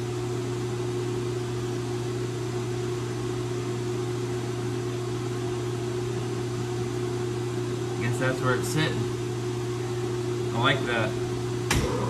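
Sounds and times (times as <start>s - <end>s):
lathe electric hum: 0.0s - 12.0s.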